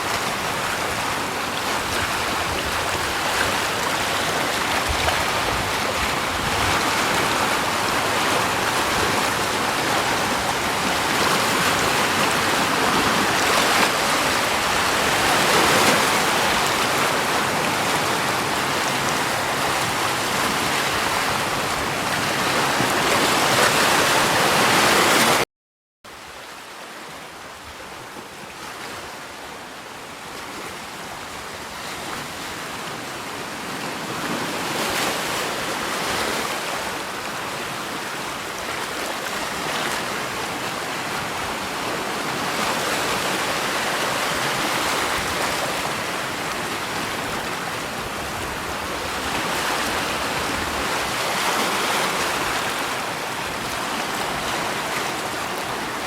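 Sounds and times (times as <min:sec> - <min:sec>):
rushing water: 0:00.0 - 0:25.4, 0:26.1 - 0:56.0.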